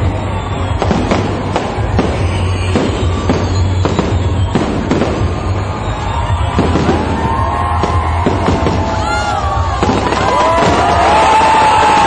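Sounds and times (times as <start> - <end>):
background music: 0.0 - 12.0
fireworks bursting with crackle: 0.0 - 12.0.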